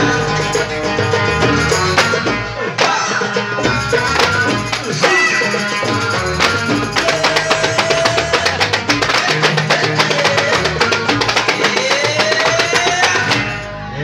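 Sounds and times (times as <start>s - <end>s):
drums and percussion beat: 0.0s - 13.8s
plucked strings: 0.0s - 14.0s
sliding melody line: 0.0s - 14.0s.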